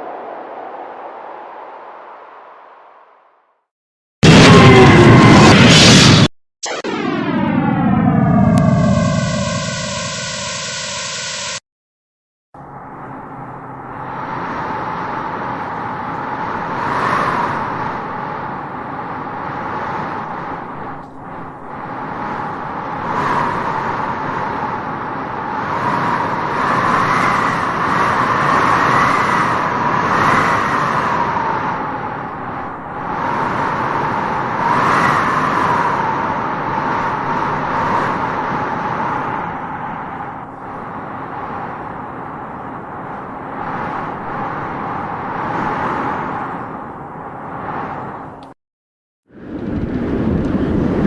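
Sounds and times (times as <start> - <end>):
strong gusting wind howling: 0.0 - 3.4, 4.2 - 11.6, 12.6 - 48.5, 49.3 - 51.0.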